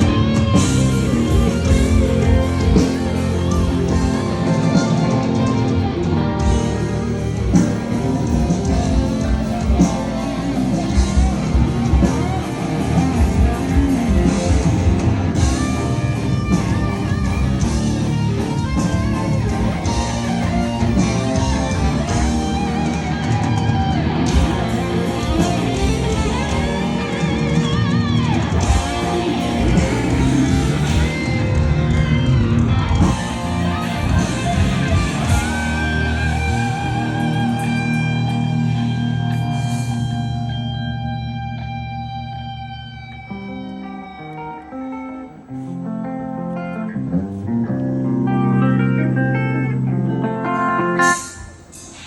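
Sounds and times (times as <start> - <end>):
drum kit: 0.0 - 40.9, 50.8 - 52.0
electric guitars: 0.0 - 52.0.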